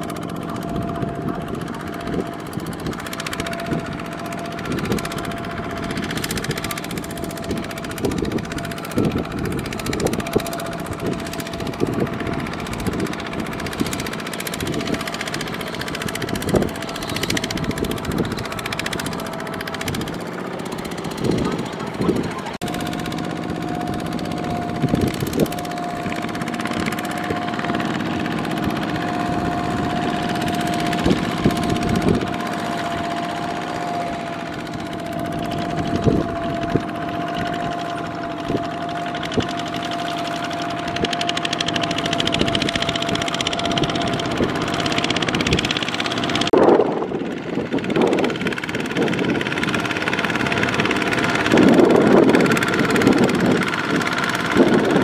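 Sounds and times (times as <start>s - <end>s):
diesel engine running: 0.0s - 55.0s
wheels churning mud: 0.0s - 55.0s.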